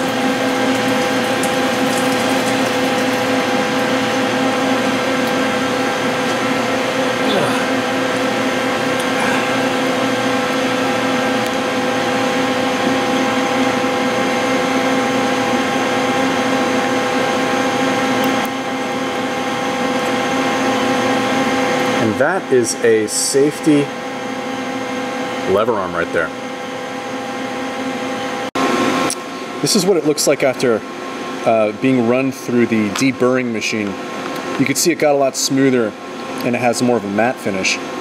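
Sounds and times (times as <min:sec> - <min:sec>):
metalworking machine whining hum: 0:00.0 - 0:38.0.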